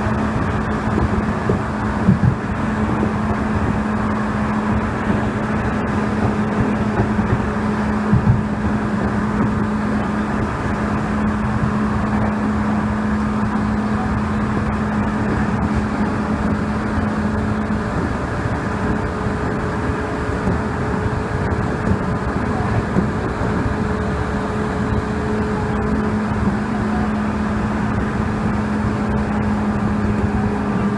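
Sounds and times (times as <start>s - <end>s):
low steady hum: 0.0s - 30.9s
train running rumble: 0.0s - 30.9s
higher steady tone: 3.4s - 30.9s.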